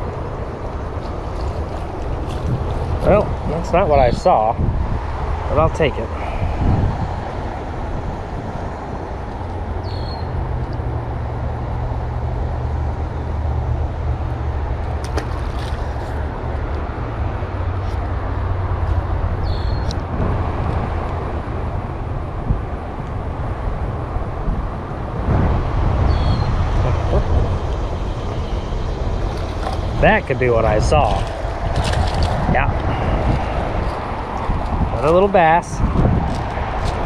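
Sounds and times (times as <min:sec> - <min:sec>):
wind buffeting microphone: 0:00.0 - 0:15.0, 0:15.6 - 0:37.0
highway traffic: 0:00.0 - 0:37.0.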